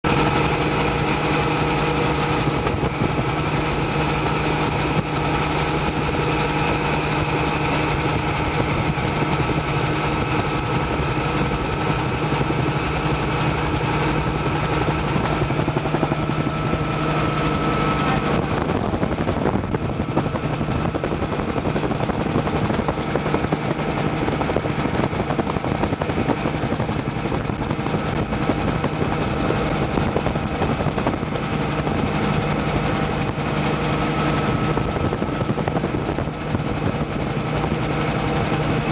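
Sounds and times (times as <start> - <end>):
helicopter cabin drone: 0.0 - 38.9.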